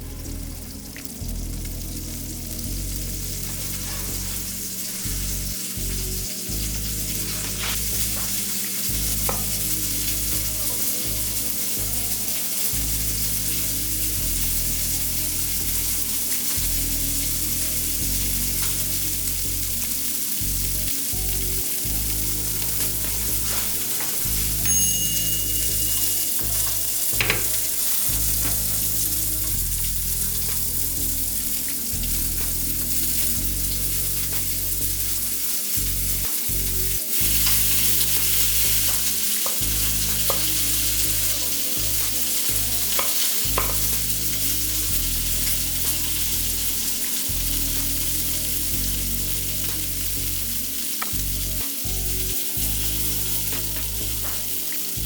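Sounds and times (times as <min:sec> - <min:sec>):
bass-heavy background music: 0:00.0 - 0:55.0
food sizzling in a frying pan: 0:00.0 - 0:55.0.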